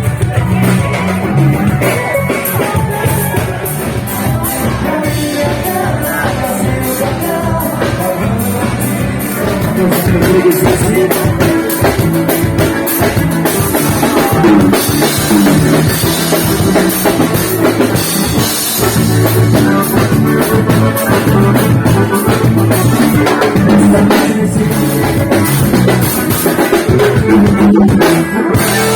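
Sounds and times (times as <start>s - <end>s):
drum kit beat: 0.0s - 28.9s
live band playing instrumental: 0.0s - 28.9s.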